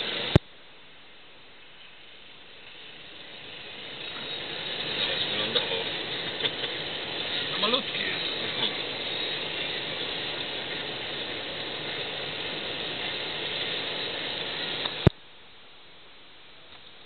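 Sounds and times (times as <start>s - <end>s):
road and wind noise in car: 0.0s - 17.0s.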